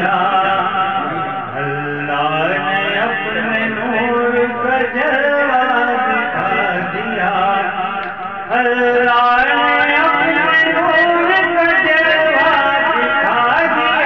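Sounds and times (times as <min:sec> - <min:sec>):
man chanting devotional song: 0:00.0 - 0:14.0.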